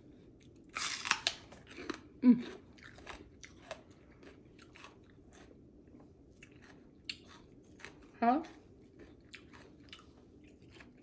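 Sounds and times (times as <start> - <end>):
person chewing crunchy food: 0.2 - 11.0.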